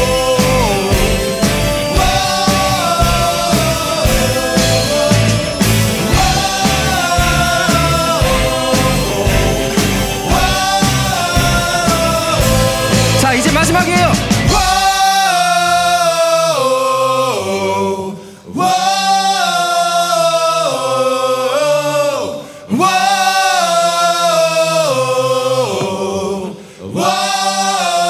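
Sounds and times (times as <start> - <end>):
men singing a cappella: 0.0 - 28.0.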